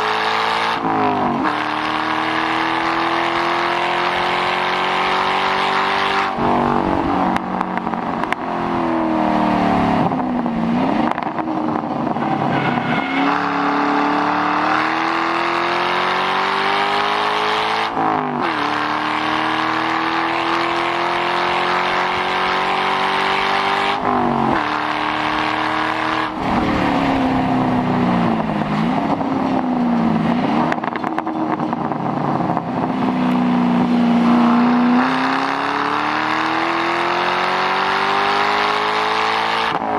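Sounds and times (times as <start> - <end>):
car exhaust revving hard: 0.0 - 39.9.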